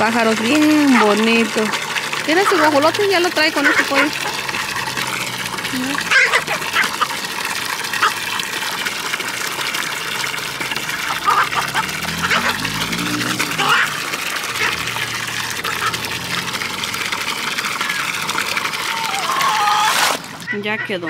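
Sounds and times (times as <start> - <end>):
hose water filling a container: 0.0 - 21.0.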